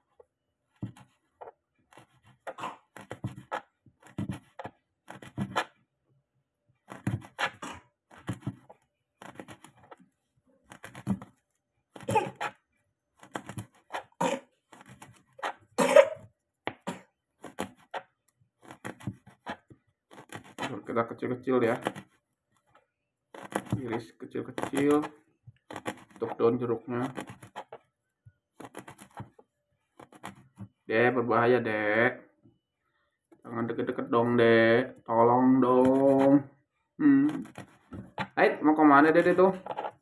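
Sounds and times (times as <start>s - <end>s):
knife cutting on plastic board: 0.2s - 5.9s, 6.8s - 21.0s, 21.6s - 27.9s, 28.5s - 30.9s, 35.6s - 36.4s, 37.2s - 40.0s.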